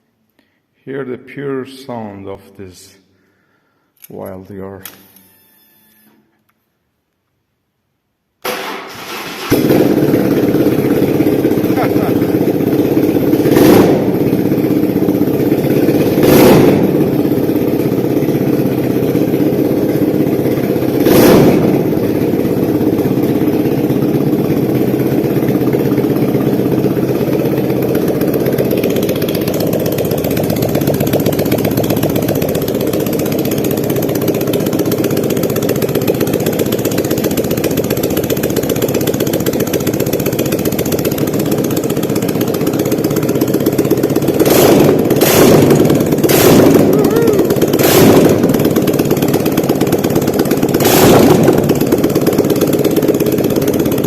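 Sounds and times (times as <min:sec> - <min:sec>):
motorcycle engine idling: 0:09.1 - 0:54.0.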